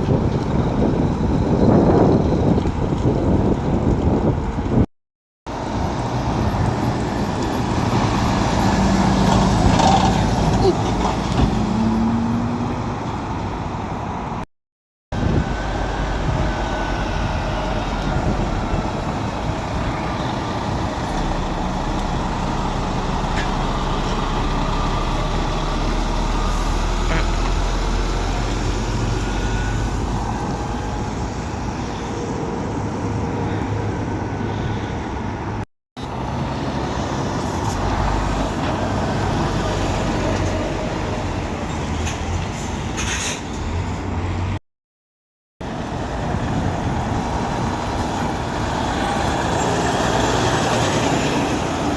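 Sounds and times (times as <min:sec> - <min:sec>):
road traffic noise: 0:00.0 - 0:04.9, 0:05.5 - 0:14.5, 0:15.1 - 0:44.6, 0:45.6 - 0:51.9
lorry diesel engines running: 0:05.5 - 0:14.4, 0:15.2 - 0:44.6, 0:45.6 - 0:51.9.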